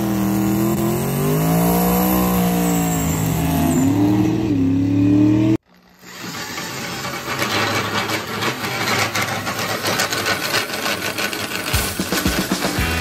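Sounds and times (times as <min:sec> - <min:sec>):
turbocharged truck engine revving: 0:00.0 - 0:13.0.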